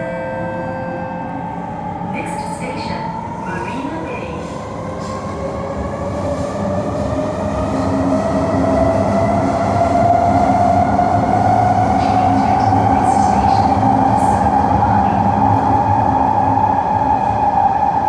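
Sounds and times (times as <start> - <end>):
train running rumble: 2.1 - 18.0.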